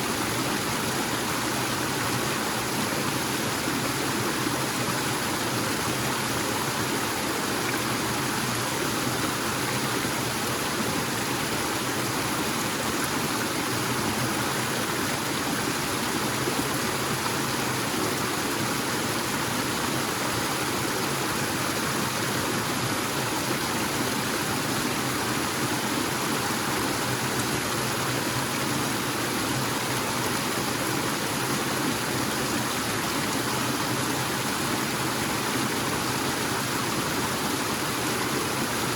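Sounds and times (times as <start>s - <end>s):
waterfall and stream rushing: 0.0s - 38.9s.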